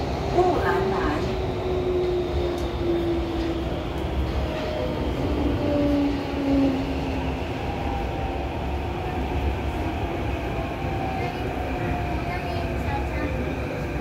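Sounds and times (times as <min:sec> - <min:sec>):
train running gear rumble: 0:00.0 - 0:14.0.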